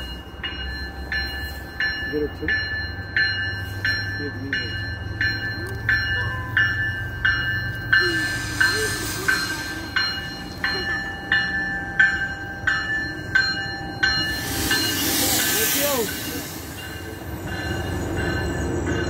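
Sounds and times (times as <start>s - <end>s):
low rumble of moving train: 0.0s - 19.0s
train bell ringing: 0.0s - 19.0s.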